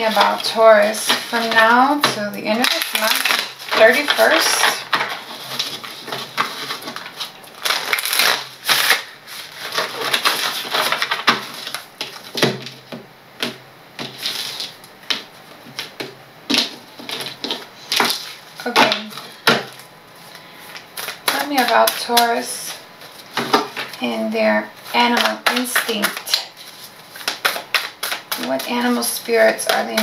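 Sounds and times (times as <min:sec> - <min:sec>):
cards being shuffled: 0:00.0 - 0:12.8, 0:13.4 - 0:24.0, 0:24.8 - 0:30.0.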